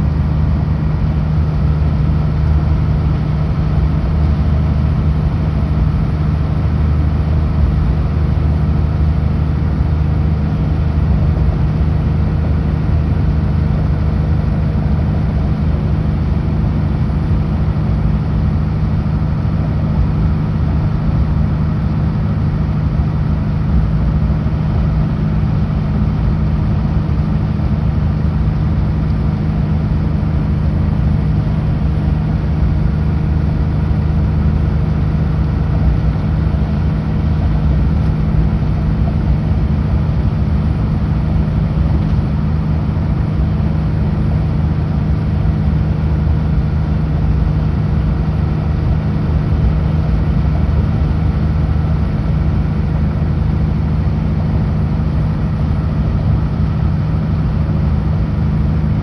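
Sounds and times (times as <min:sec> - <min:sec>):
road noise: 0:00.0 - 0:58.8
truck diesel engine running: 0:00.0 - 0:59.0.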